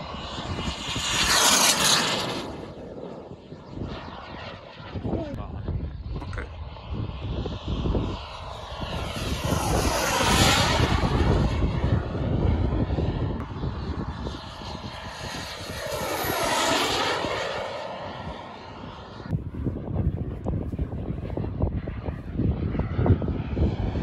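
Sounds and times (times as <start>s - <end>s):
jet turbine whine fly-by: 0.0s - 24.0s.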